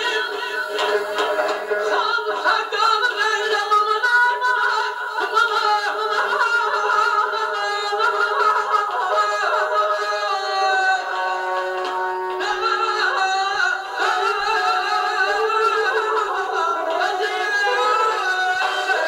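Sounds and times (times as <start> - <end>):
man singing into microphone: 0.0 - 19.0.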